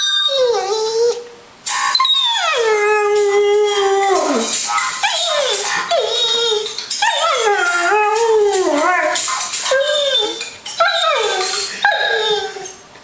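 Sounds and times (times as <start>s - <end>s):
dog howling: 2.0s - 12.8s.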